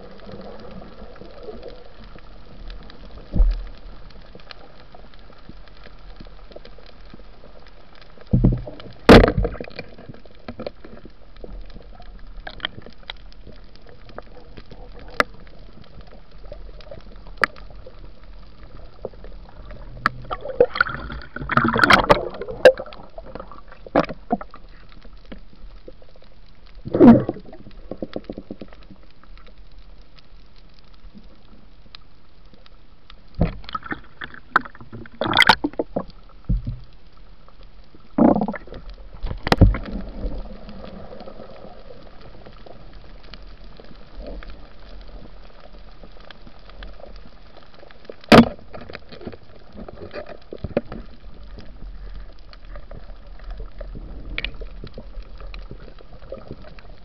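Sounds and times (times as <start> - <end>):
faint steady hiss: 0.0 - 57.0
underwater gurgling and bubbling: 0.0 - 57.0.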